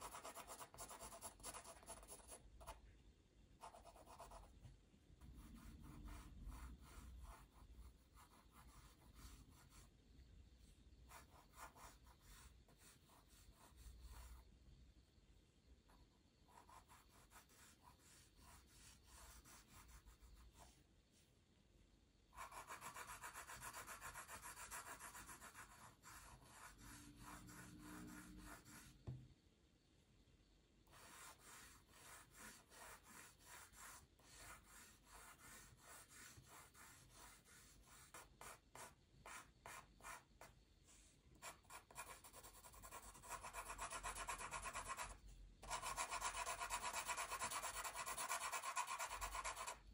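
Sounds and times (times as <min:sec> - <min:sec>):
pencil scratching on paper: 0:00.0 - 0:02.8, 0:03.6 - 0:04.5, 0:05.2 - 0:09.9, 0:11.1 - 0:14.5, 0:16.5 - 0:20.8, 0:22.4 - 0:29.0, 0:30.9 - 0:40.5, 0:41.3 - 0:49.9.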